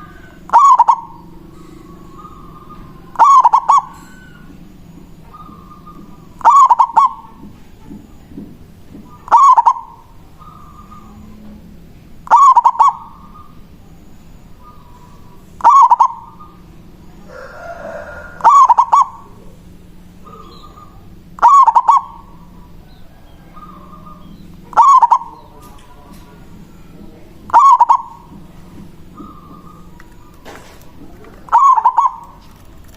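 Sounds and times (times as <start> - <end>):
dove cooing: 0.0 - 32.9.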